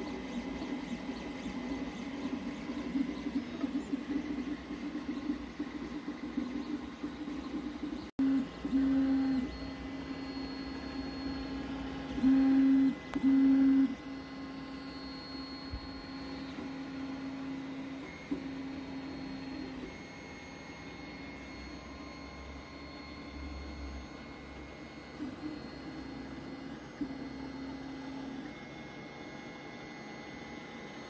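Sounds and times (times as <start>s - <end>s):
printer motors humming: 0.0s - 31.0s.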